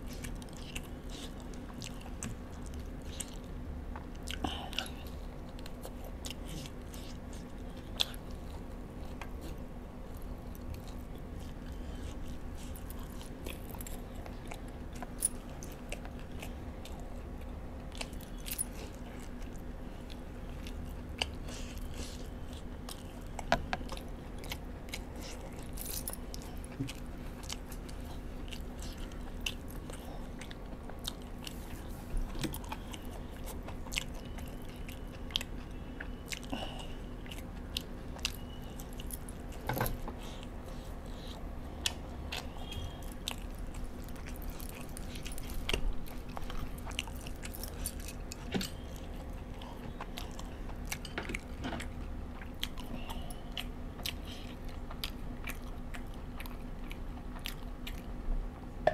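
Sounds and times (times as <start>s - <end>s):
chewing and biting: 0.0s - 58.9s
steady low hum: 0.0s - 58.9s.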